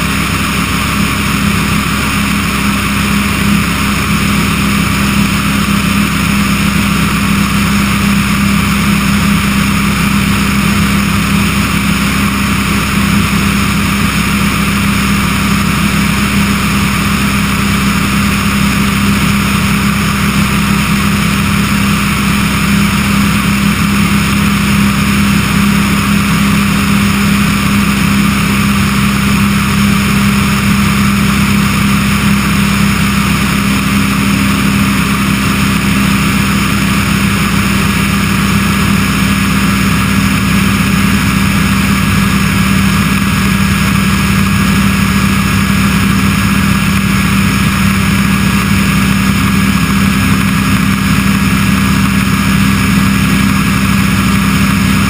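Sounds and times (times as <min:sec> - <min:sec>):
aircraft engine and propeller drone: 0:00.0 - 0:55.0.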